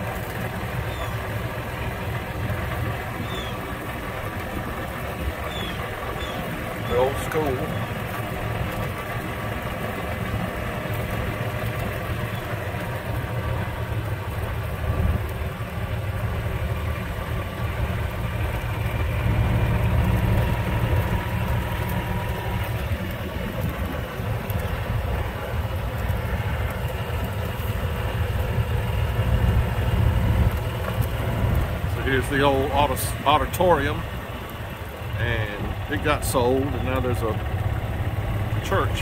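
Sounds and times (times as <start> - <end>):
car engine: 0.0 - 39.0
road noise: 0.0 - 39.0.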